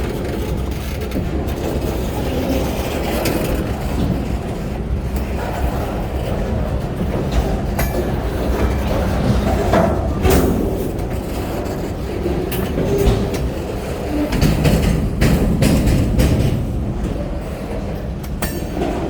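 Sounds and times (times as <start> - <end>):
freight train rumbling past: 0.0 - 19.0
wheels clacking over rail joints: 0.0 - 19.0.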